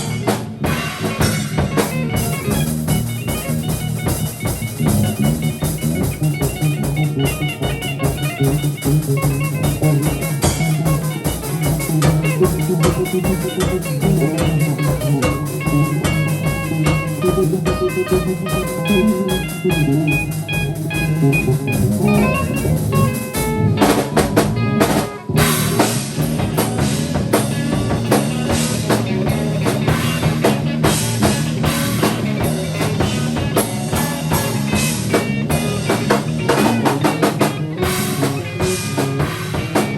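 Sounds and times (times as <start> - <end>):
drum kit: 0.0 - 39.9
guitar: 0.0 - 39.9.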